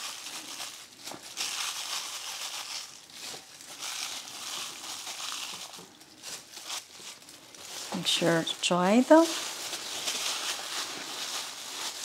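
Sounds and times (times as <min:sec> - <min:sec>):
paper towels rustling: 0:00.0 - 0:12.0
plastic glove crinkling: 0:00.0 - 0:12.0.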